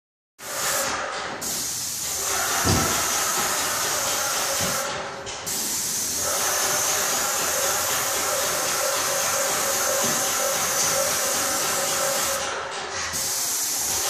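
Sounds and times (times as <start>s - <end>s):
paint sprayer hissing: 0.4s - 14.0s.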